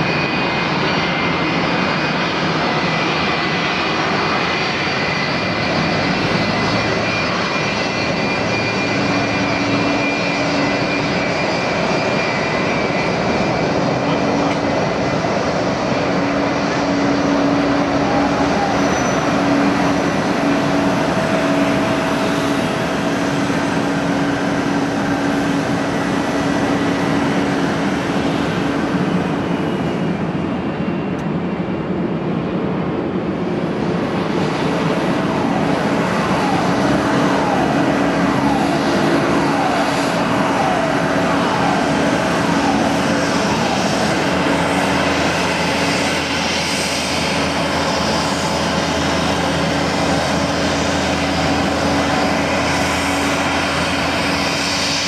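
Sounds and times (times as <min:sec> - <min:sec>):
jet engine over loudspeakers: 0:00.0 - 0:55.0.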